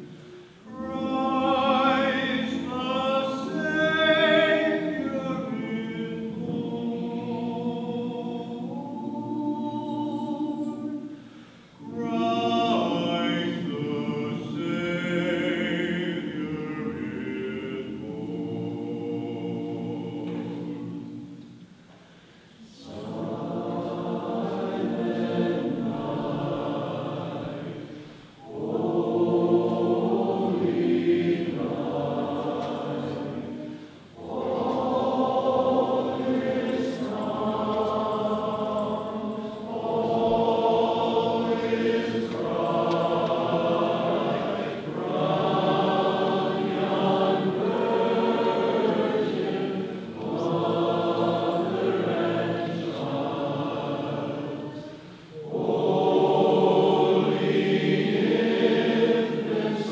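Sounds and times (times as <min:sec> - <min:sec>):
choir singing: 0:00.0 - 0:21.7, 0:22.6 - 0:59.9.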